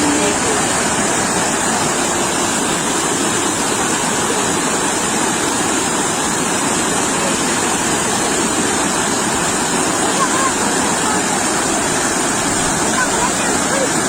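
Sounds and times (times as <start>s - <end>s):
sea waves surging on shore: 0.0s - 14.0s.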